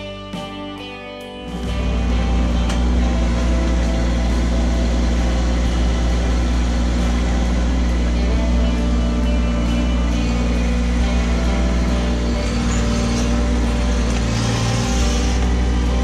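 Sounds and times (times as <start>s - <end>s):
tractor diesel engine running: 1.5s - 16.0s.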